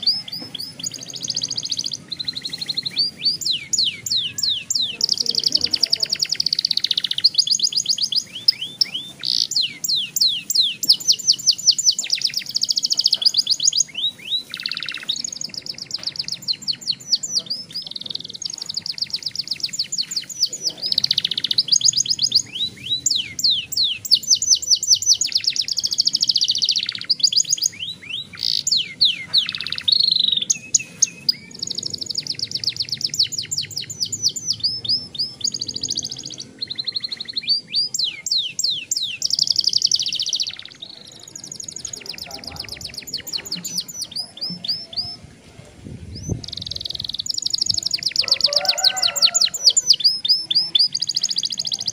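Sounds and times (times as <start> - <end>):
canary singing trills: 0.0 - 45.4, 46.0 - 51.9.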